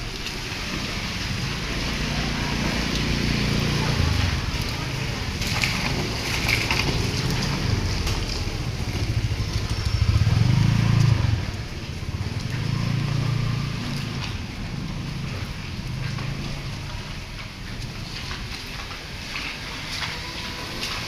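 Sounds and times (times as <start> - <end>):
road noise on wet road: 0.0 - 21.0
wind: 0.0 - 21.0
vehicle engine running: 1.4 - 20.1.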